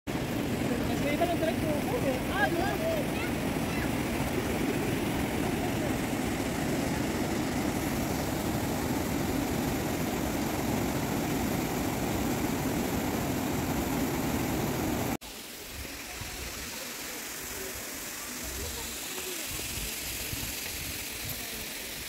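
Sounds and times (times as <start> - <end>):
stream rushing over rocks: 0.1 - 22.0.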